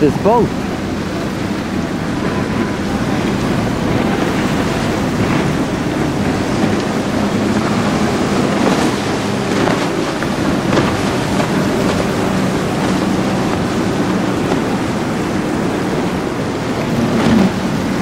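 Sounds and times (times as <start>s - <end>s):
boat engine drone: 0.0s - 18.0s
waves washing: 0.0s - 18.0s
wind buffeting microphone: 0.0s - 18.0s.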